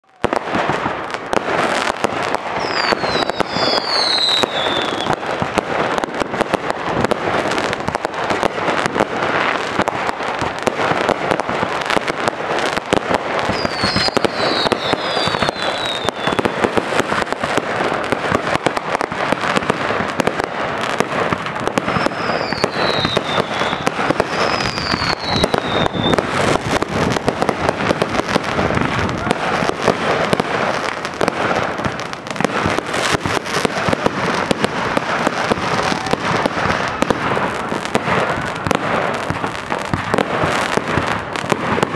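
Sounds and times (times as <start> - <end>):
firework whistles: 0.0 - 6.2, 11.2 - 41.9
fireworks pops and bangs: 0.0 - 41.9.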